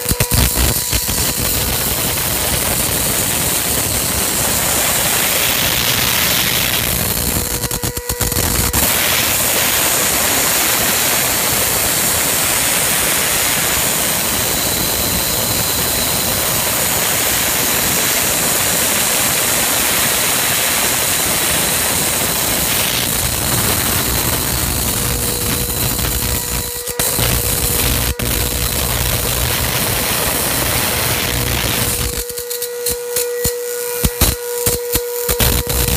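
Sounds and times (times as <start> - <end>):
spark gap firing: 0.0 - 35.9.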